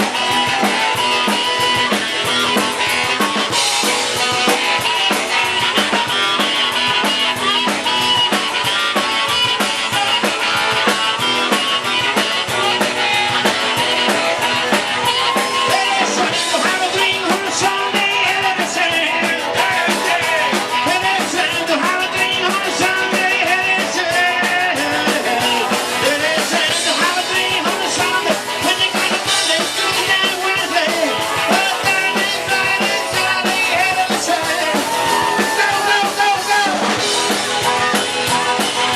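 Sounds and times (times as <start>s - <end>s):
bending lead guitar line: 0.0s - 38.9s
drum kit fast beat: 0.0s - 38.9s
electric guitar: 0.0s - 38.9s.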